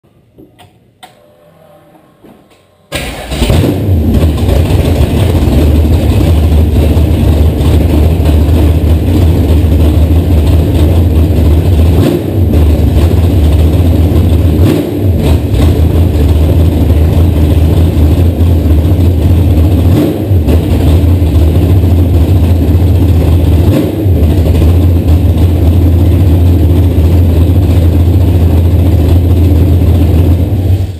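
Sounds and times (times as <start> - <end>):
engine running loud and steady: 3.2 - 30.9.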